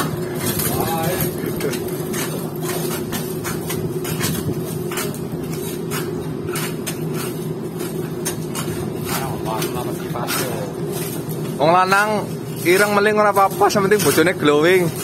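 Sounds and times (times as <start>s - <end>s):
metal scrapers scraping hull: 0.0s - 15.0s
steady low hum: 0.0s - 15.0s.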